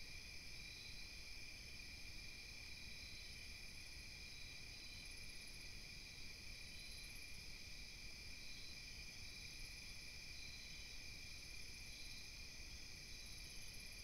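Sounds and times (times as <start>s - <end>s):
crickets trilling: 0.0s - 1.8s, 4.1s - 14.0s.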